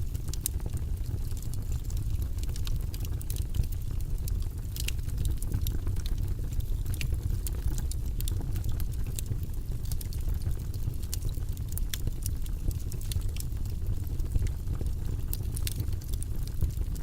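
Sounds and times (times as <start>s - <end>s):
fire burning: 0.0s - 17.0s
fire crackling and popping: 0.0s - 17.0s.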